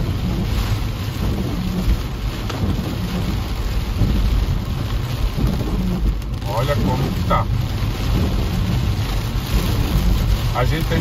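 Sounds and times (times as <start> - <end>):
heavy rain on car windshield: 0.0 - 11.0
low rumble: 0.0 - 11.0.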